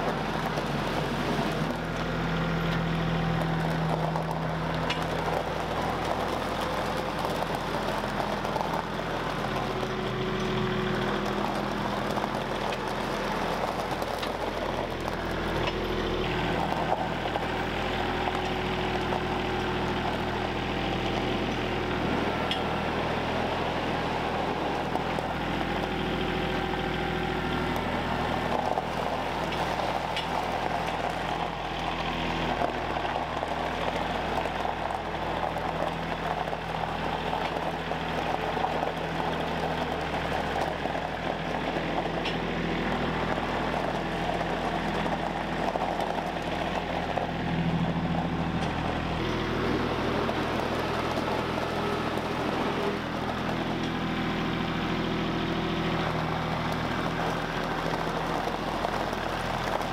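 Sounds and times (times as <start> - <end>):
tractor diesel engine running: 0.0 - 59.9
tyres on gravel: 0.0 - 59.9.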